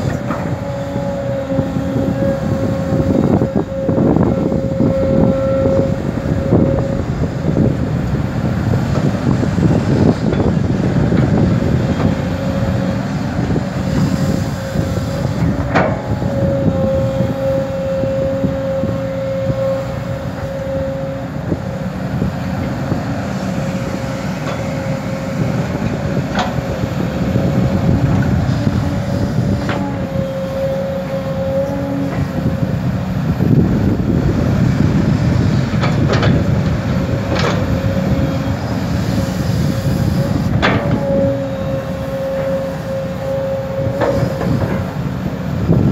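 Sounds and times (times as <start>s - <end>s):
excavator diesel engine rumbling: 0.0s - 45.9s
steady engine whine: 0.0s - 45.9s.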